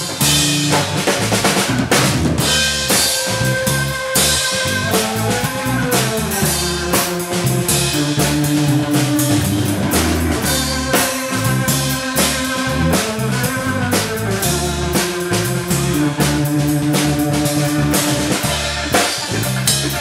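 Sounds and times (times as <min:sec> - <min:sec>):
drum kit with cymbals: 0:00.0 - 0:20.0
electric bass guitar: 0:00.0 - 0:20.0
electric organ chords: 0:00.0 - 0:20.0.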